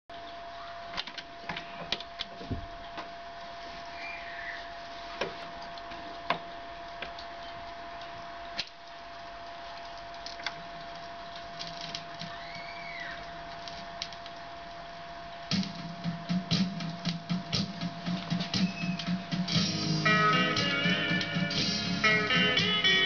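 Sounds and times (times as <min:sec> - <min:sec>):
steady hum: 0:02.4 - 0:23.0.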